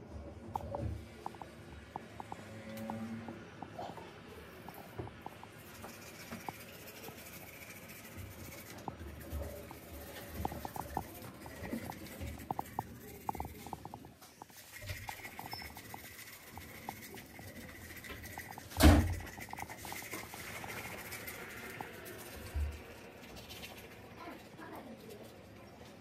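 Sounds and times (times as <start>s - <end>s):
toothbrush scrubbing teeth: 0.5s - 26.0s.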